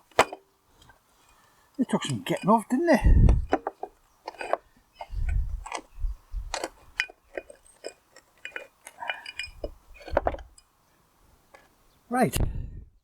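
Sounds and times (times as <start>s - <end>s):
metal parts clicking and knocking: 0.0s - 10.7s.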